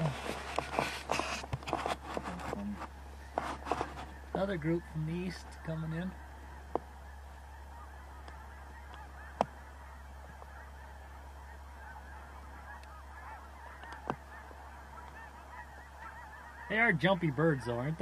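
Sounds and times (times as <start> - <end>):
distant geese honking: 0.0 - 18.0.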